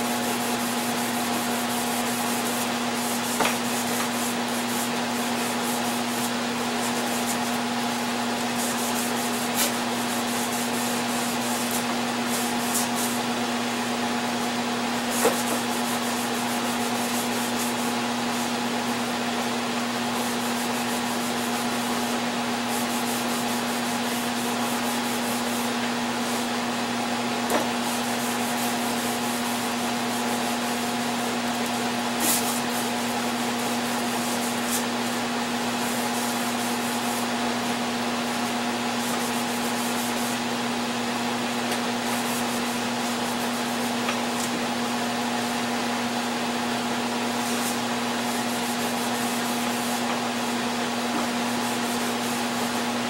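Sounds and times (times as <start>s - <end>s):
power sander on wood: 0.0s - 53.0s.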